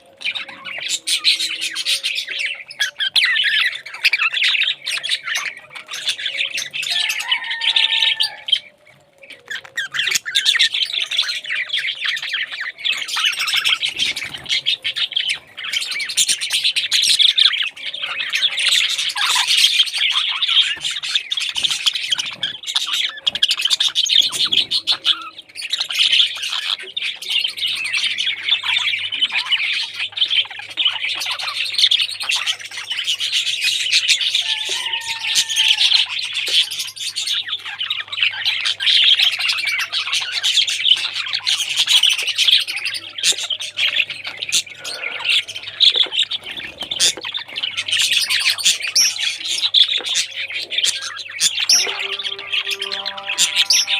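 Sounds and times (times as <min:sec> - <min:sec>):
parrots chattering and squawking: 0:00.0 - 0:53.9.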